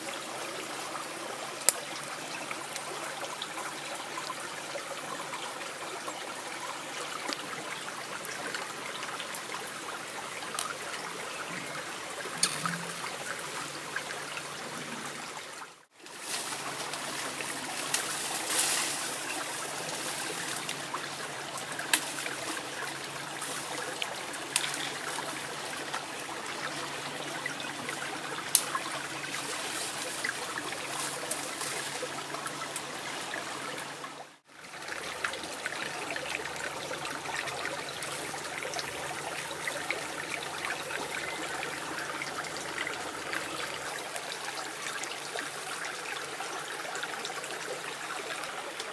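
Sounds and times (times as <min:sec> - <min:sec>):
stream running over rocks: 0:00.0 - 0:48.9.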